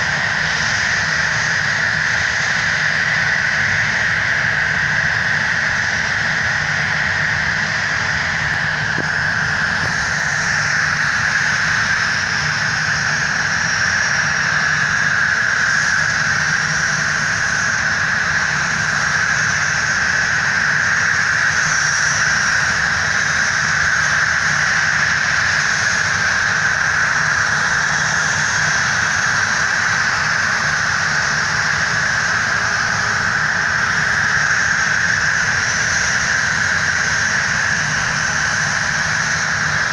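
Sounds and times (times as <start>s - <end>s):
jet engines running steadily: 0.0s - 39.9s.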